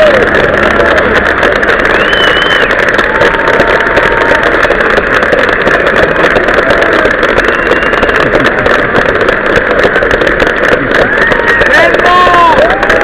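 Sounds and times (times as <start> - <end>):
audience applauding and cheering: 0.0 - 13.0.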